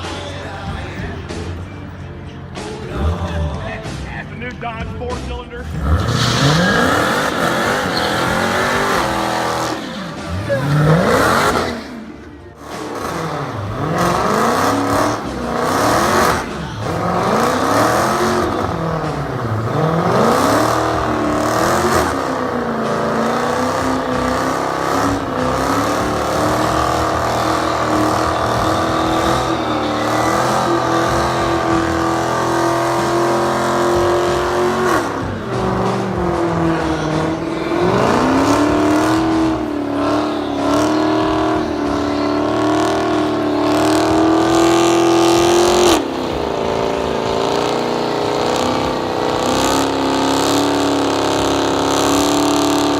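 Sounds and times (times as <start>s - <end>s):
car engine revving in a burnout: 5.6s - 52.9s.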